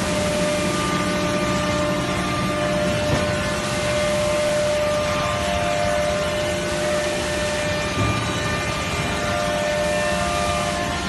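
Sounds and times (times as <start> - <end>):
sanding machine droning: 0.0 - 11.0.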